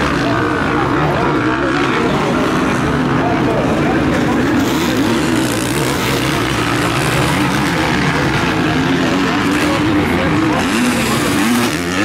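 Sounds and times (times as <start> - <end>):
motocross motorcycle engines racing: 0.0 - 12.0.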